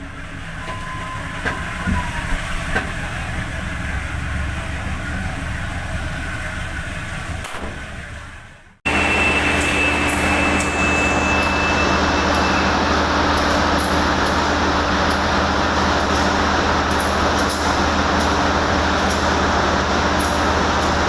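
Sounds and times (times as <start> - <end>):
train knocks: 0.0 - 8.2, 9.5 - 21.0
train rumbling: 0.0 - 21.0.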